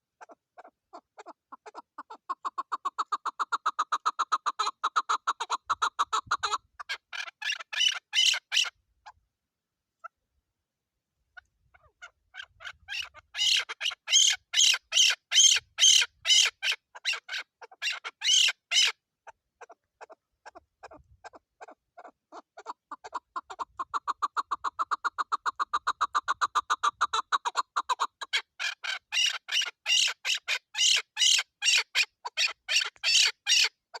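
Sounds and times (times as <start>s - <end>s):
partridge clucking calls: 0.0s - 8.8s, 11.4s - 34.0s.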